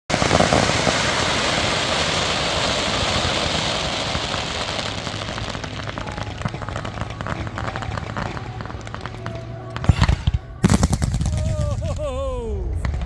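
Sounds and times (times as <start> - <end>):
fireworks hissing crackle: 0.1 - 13.0.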